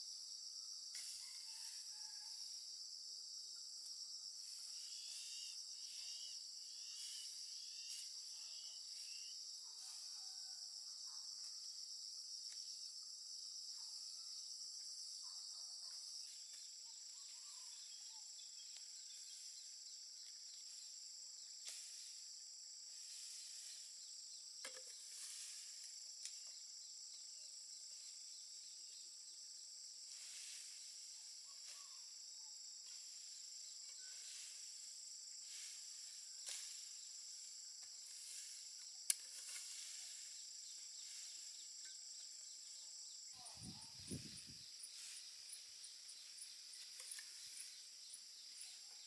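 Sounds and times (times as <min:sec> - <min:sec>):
high-pitched insect chorus: 0:00.1 - 0:49.0.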